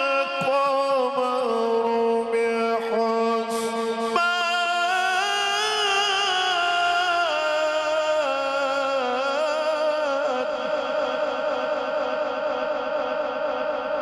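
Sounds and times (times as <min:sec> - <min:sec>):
man reciting in melismatic chant: 0:00.0 - 0:14.0.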